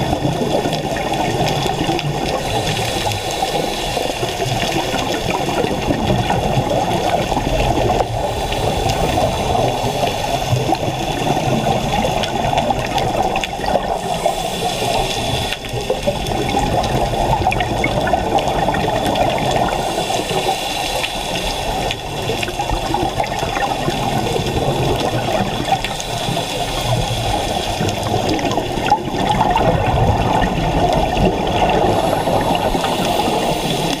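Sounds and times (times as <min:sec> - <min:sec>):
underwater rush of water and bubbles: 0:00.0 - 0:34.0.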